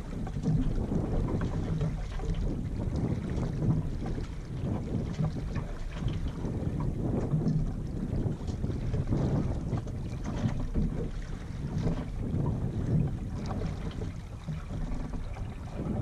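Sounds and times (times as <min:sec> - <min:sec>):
water washing against hull: 0:00.0 - 0:16.0
wind buffeting microphone: 0:00.0 - 0:16.0.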